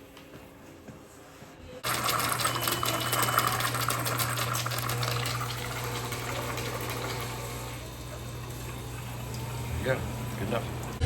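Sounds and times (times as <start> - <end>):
water rushing through plumbing: 1.8 - 11.0.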